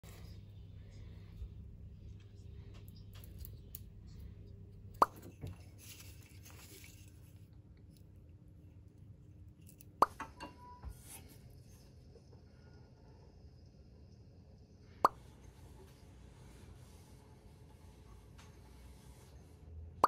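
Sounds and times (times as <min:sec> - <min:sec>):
faint low steady hum: 0:00.0 - 0:20.0.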